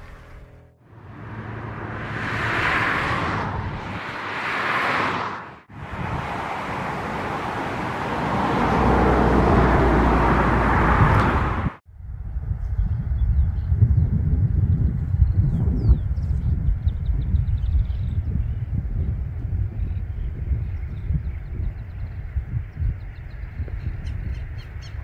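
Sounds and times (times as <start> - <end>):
heavy vehicle low rumble: 0.0 - 4.3, 5.6 - 23.7
vehicles passing on highway: 0.0 - 13.2, 18.1 - 25.0.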